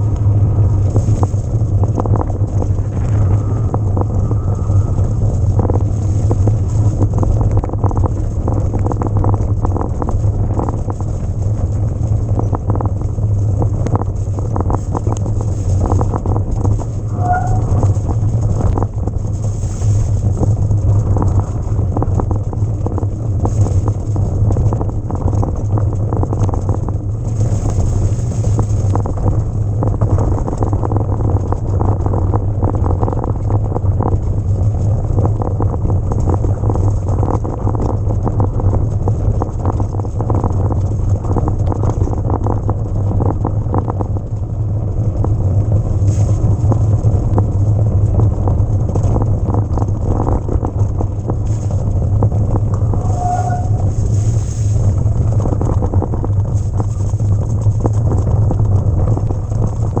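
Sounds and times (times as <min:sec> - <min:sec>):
mountain bike rattling on trail: 0:00.0 - 1:00.0
wind buffeting microphone: 0:00.0 - 1:00.0.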